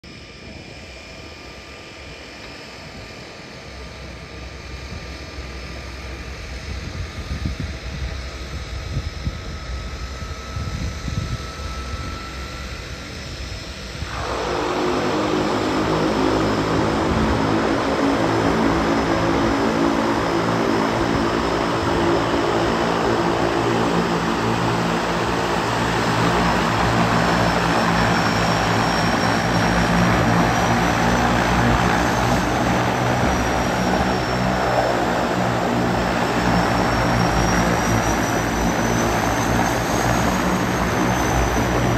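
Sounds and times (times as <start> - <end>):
propeller drone: 0.0 - 41.9
turbine whine: 0.0 - 41.9.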